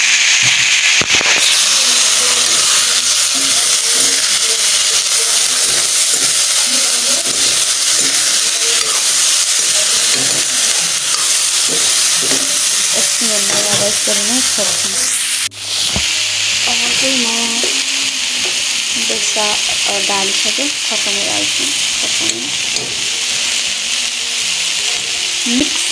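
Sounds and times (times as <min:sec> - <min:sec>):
food sizzling in hot oil: 0:00.0 - 0:25.9.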